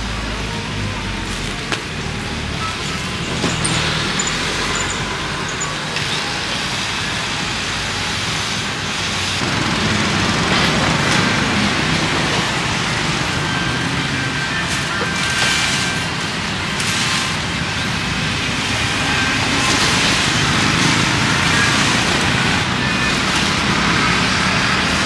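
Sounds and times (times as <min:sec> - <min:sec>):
motorbikes and cars passing: 0:00.0 - 0:25.0.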